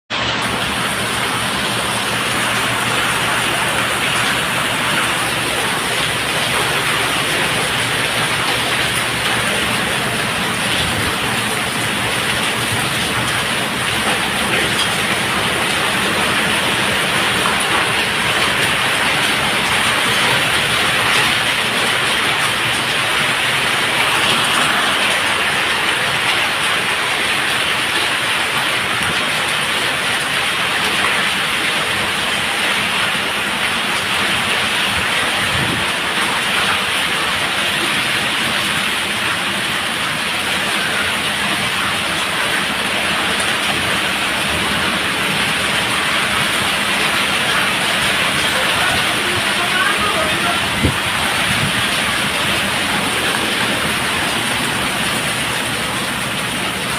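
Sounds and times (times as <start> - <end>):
heavy rain falling: 0.1 - 56.9.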